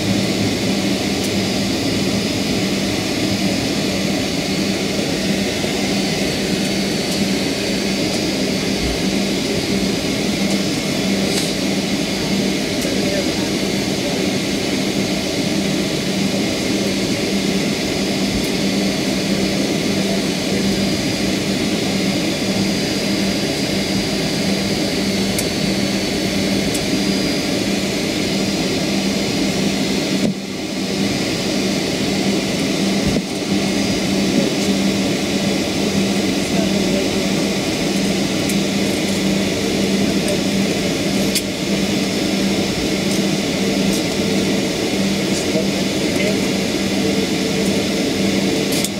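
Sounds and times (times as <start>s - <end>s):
jet engines rushing: 0.0s - 48.9s.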